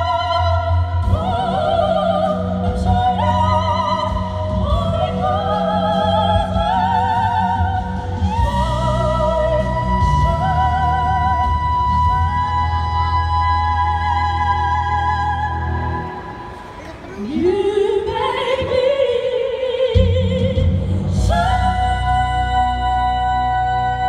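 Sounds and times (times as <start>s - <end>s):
women singing operatically: 0.0s - 16.5s, 17.2s - 24.0s.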